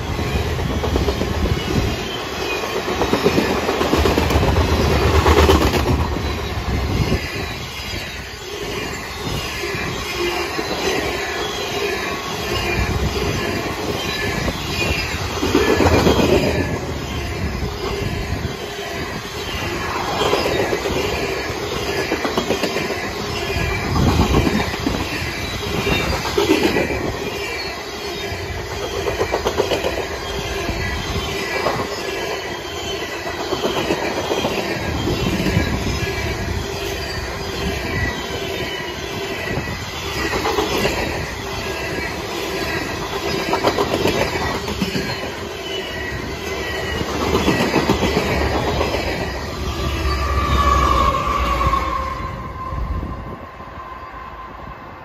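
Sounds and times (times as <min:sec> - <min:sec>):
train wheels rumbling over rails: 0:00.0 - 0:55.0
wheel squeal: 0:04.9 - 0:53.3.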